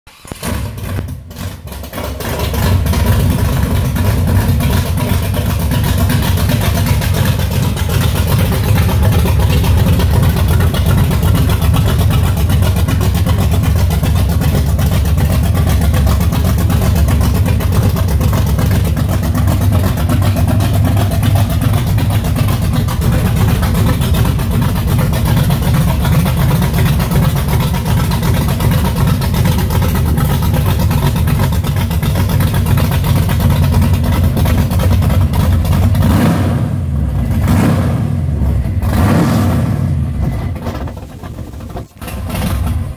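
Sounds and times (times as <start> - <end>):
car engine low rumble: 0.0 - 42.9.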